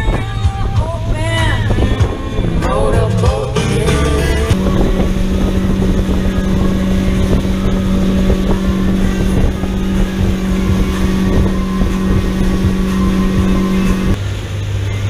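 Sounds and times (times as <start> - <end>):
wind on microphone: 0.0 - 14.5
boat wake rushing: 0.0 - 15.0
outboard motor drone: 0.0 - 15.0.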